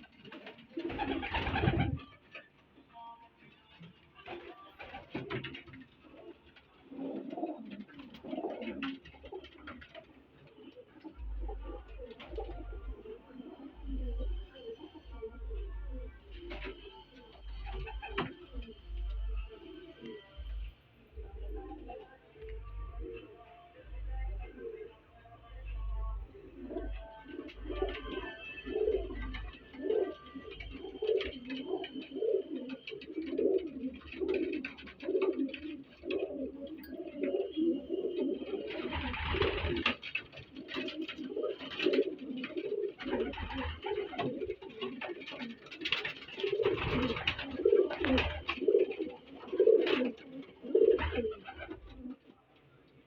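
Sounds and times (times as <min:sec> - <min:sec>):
pigeons cooing: 0:00.0 - 0:02.5, 0:04.3 - 0:23.4, 0:24.3 - 0:52.4.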